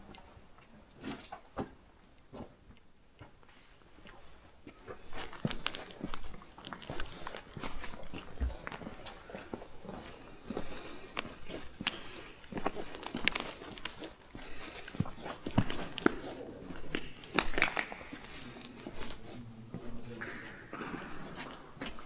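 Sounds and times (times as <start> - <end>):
footsteps crunching on rubble: 1.5 - 22.0.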